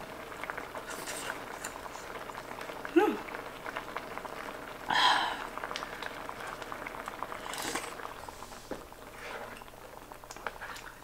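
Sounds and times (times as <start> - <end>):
stew bubbling: 0.0 - 11.0.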